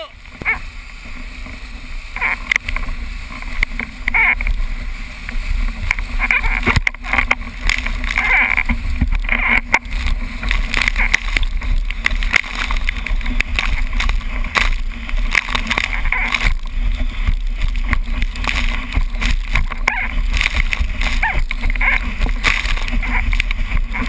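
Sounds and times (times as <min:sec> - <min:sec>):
water rushing: 0:00.0 - 0:24.0
wind buffeting microphone: 0:02.5 - 0:24.0.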